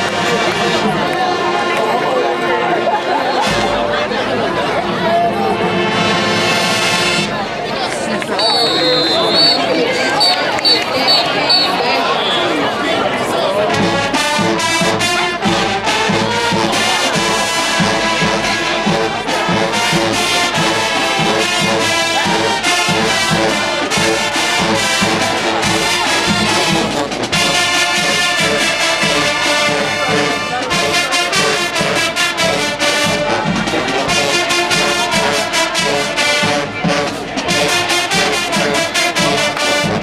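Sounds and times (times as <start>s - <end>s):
brass section playing: 0.0s - 4.2s, 5.4s - 40.0s
drumline beating: 5.4s - 40.0s.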